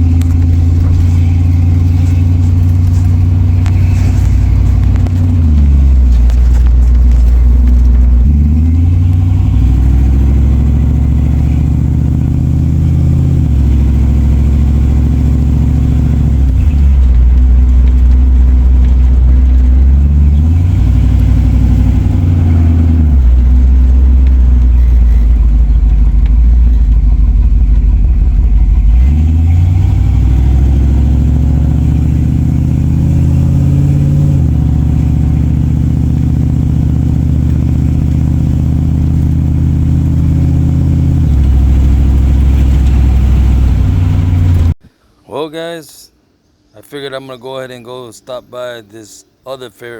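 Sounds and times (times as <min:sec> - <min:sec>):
car engine droning: 0:00.0 - 0:44.8.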